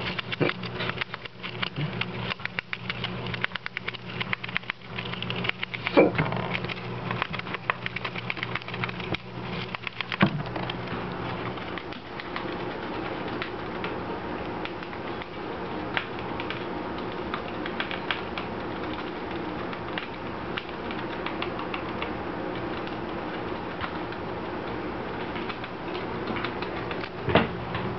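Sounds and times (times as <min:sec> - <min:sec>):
gerbils gnawing cardboard: 0:00.0 - 0:27.3
steady background noise: 0:00.0 - 0:27.9.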